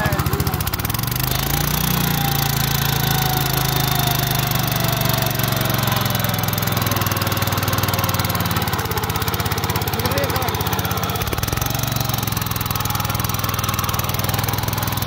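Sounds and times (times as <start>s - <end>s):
small tiller engine running: 0.0s - 15.0s.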